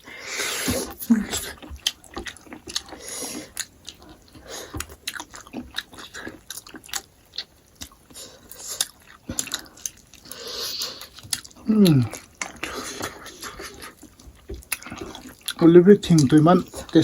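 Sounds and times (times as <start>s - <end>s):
food being bitten and chewed: 0.2s - 17.0s.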